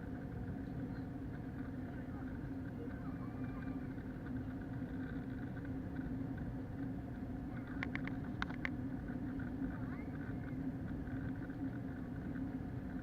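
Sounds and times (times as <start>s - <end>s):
aircraft cabin drone: 0.0s - 13.0s.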